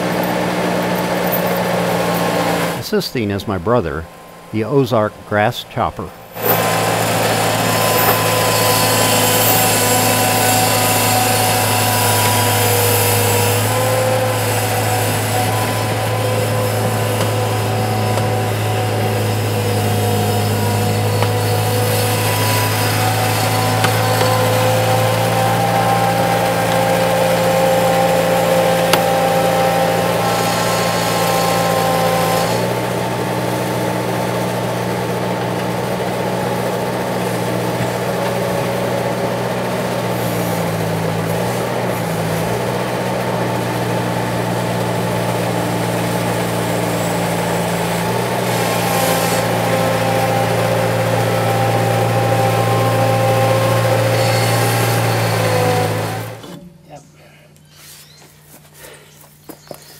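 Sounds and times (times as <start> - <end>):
diesel loader engine running: 0.0 - 56.8.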